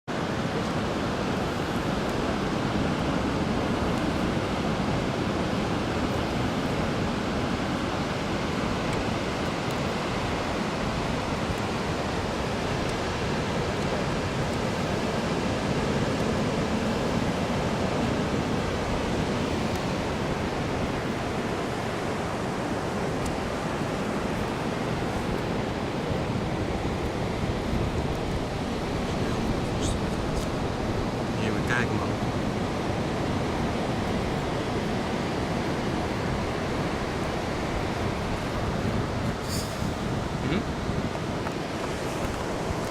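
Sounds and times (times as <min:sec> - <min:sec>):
ocean waves breaking on beach: 0:00.1 - 0:42.9.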